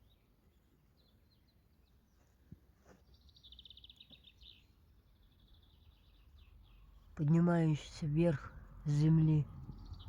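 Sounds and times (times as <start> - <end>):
songbird trilling and chirping: 0.0 - 2.3, 3.0 - 10.0
quiet outdoor ambience: 0.0 - 10.0.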